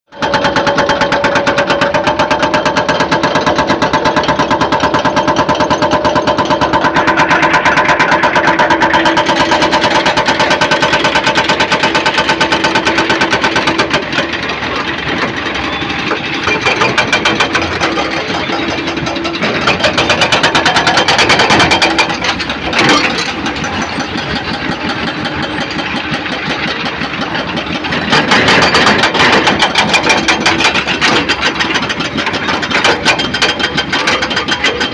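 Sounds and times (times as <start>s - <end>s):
construction machinery engine pulsing: 0.2s - 34.9s.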